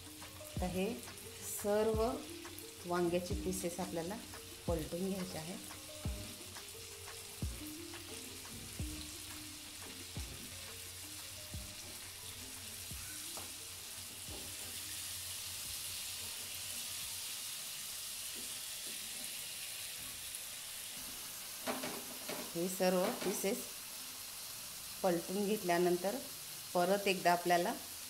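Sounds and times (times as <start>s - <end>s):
eggplant sizzling in oil: 0.0s - 28.0s.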